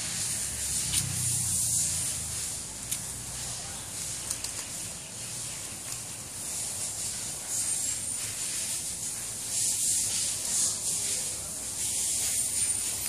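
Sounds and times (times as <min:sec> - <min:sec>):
leaves rustling: 0:00.0 - 0:13.0.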